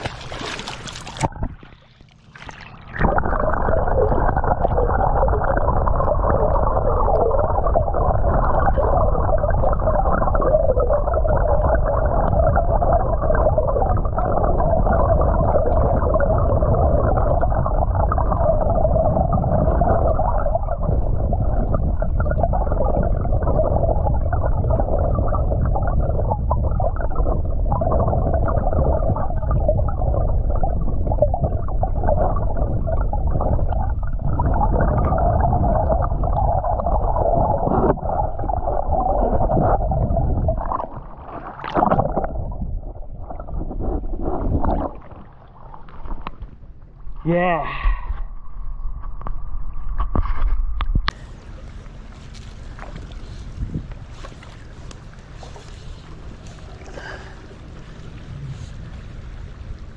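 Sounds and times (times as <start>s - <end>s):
muffled underwater river rumble: 0.0s - 59.9s.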